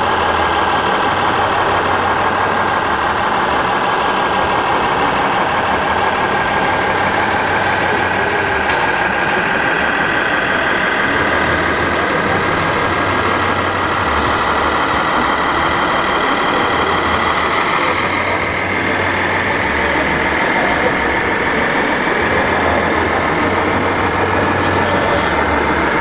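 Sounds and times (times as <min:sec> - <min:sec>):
toy truck engine with faint whine: 0:00.0 - 0:26.0.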